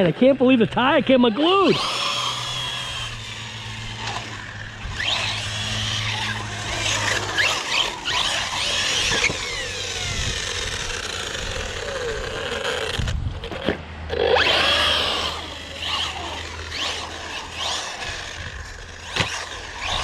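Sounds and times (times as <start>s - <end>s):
tire noise on pavement: 0.0s - 20.0s
electric motor whine: 1.2s - 20.0s.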